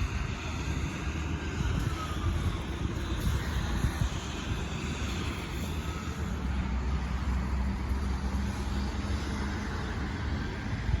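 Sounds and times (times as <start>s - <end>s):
traffic noise: 0.0s - 11.0s
vehicle engine rumbling: 0.0s - 11.0s.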